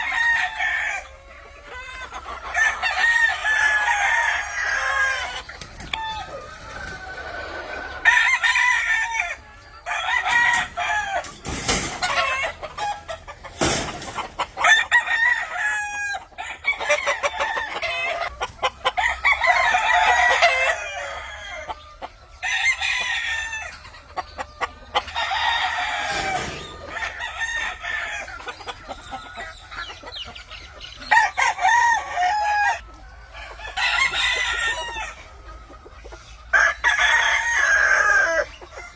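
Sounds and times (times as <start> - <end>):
roosters crowing: 0.0 - 38.9.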